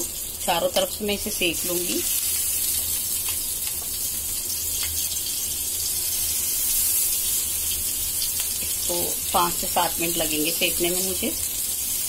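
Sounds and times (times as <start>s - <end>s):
chillies sizzling in oil: 0.0s - 12.0s.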